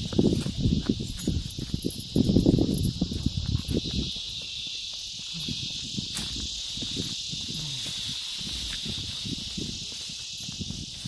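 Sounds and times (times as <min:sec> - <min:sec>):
footsteps walking: 0:00.0 - 0:11.0
high insect chorus: 0:00.0 - 0:11.0.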